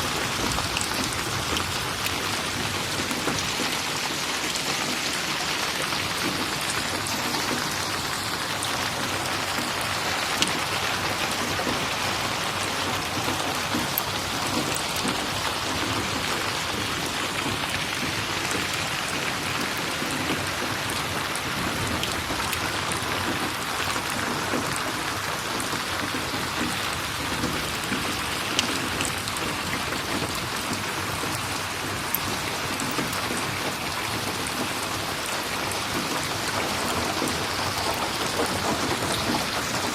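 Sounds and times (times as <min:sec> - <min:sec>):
dense rainfall: 0:00.0 - 0:39.9.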